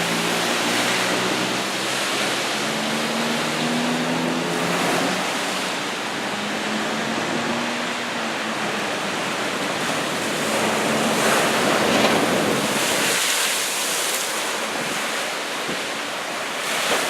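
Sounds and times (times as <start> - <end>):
rough surf breaking on beach: 0.0 - 17.0
wind: 0.0 - 17.0.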